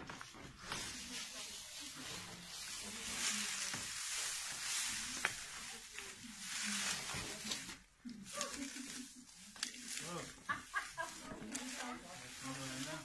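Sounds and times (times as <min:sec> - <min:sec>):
dry straw rustling and crackling: 0:00.0 - 0:13.0.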